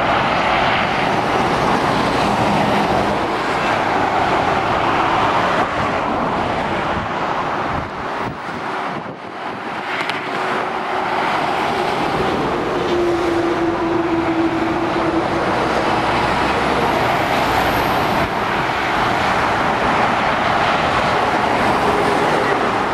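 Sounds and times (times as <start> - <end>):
motorway traffic rushing: 0.0 - 22.9.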